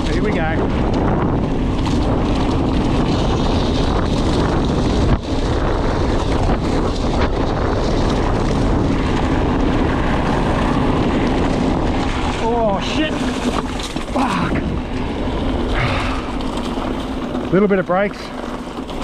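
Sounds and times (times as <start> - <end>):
bike tyres roaring on gravel: 0.0 - 19.0
wind rushing over microphone: 0.0 - 19.0.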